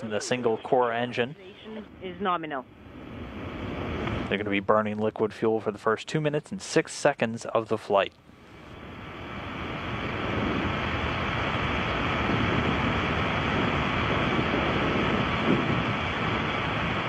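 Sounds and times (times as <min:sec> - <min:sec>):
rocket engine roar: 0:00.0 - 0:17.0.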